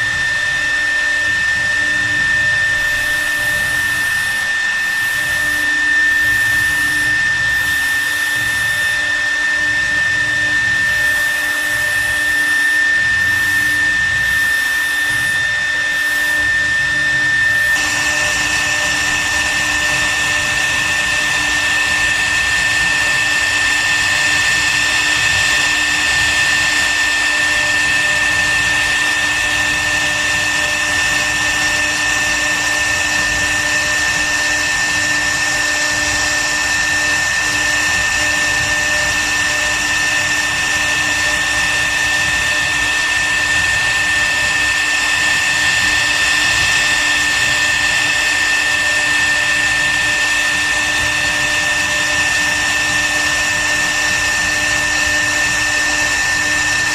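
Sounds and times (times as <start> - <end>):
router spindle motor whine: 0.0 - 56.9.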